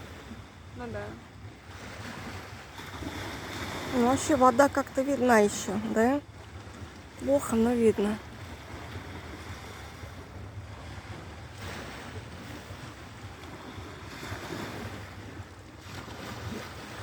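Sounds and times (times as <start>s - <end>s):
sea surf washing ashore: 0.0s - 17.0s
wind rumble on microphone: 0.0s - 17.0s.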